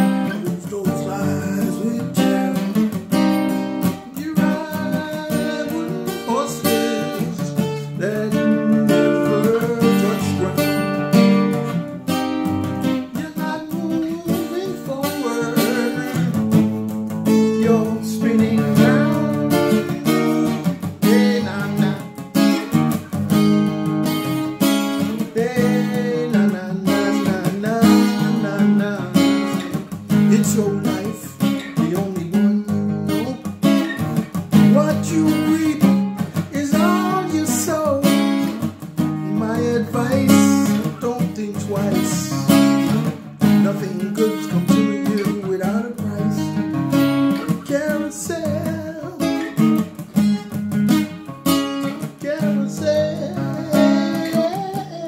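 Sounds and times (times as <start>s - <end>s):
acoustic guitar: 0.0s - 55.0s
man singing: 0.0s - 55.0s.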